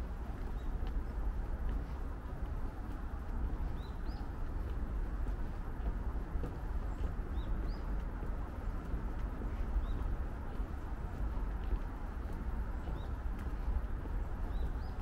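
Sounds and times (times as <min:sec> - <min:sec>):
low outdoor rumble: 0:00.0 - 0:15.0
small birds chirping: 0:00.1 - 0:15.0.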